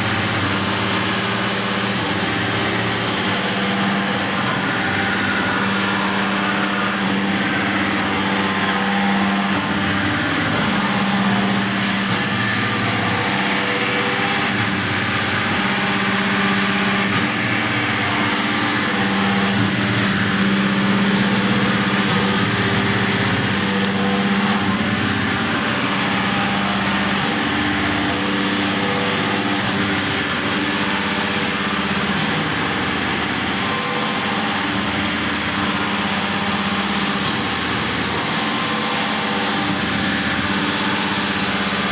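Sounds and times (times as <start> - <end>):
grinder machine hum: 0.0 - 41.9.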